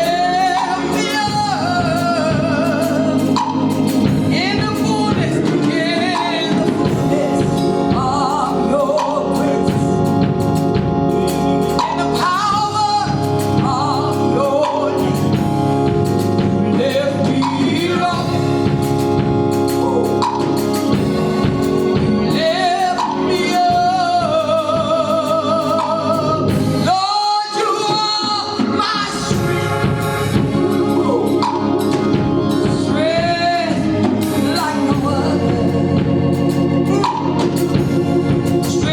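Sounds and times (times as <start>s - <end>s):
instrumental accompaniment: 0.0s - 38.9s
person singing gospel: 0.0s - 38.9s.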